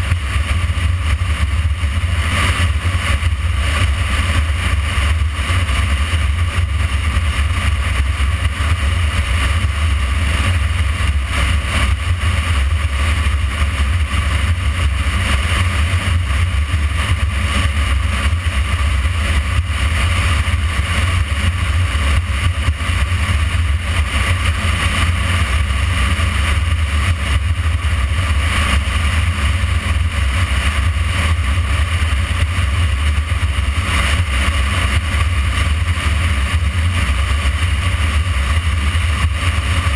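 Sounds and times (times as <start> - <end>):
motorcycle engine and tyre noise: 0.0 - 39.9
wind rumble on microphone: 0.0 - 39.9.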